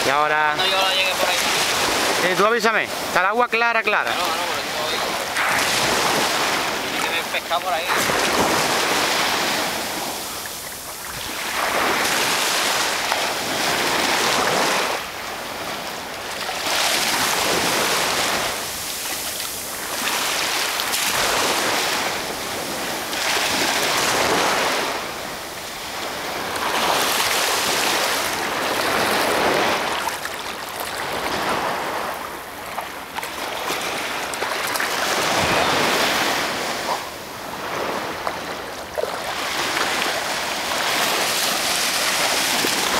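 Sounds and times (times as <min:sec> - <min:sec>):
small waves breaking: 0:00.0 - 0:42.9.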